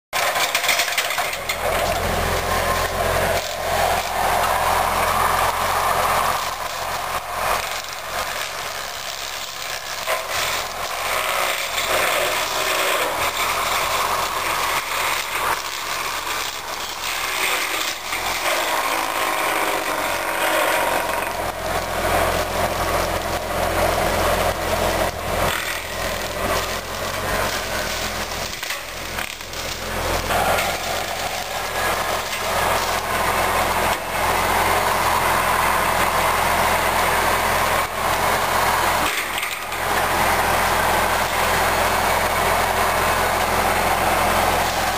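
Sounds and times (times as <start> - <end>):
machine engine running under load: 0.2 - 44.9
saw cutting branches: 0.2 - 44.9
wood cracking: 0.2 - 44.9.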